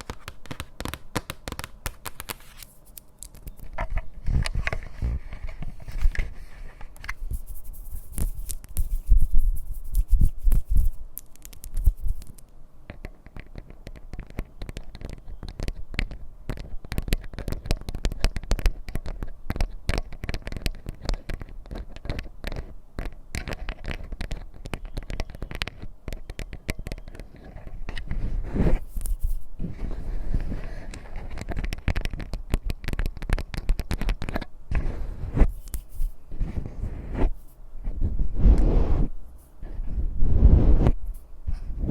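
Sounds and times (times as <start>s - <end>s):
fingernails tapping and scratching: 0.0s - 36.8s.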